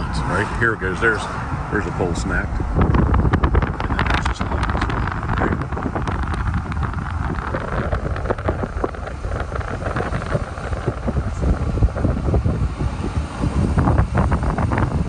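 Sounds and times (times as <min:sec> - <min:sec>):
car road and engine rumble: 0:00.0 - 0:15.0
wind buffeting microphone: 0:00.0 - 0:15.0.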